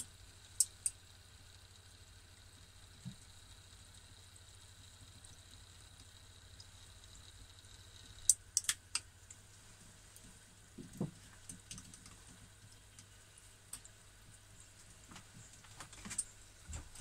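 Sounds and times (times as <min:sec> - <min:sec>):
oil crackling and popping: 0:00.0 - 0:09.4, 0:10.1 - 0:16.3.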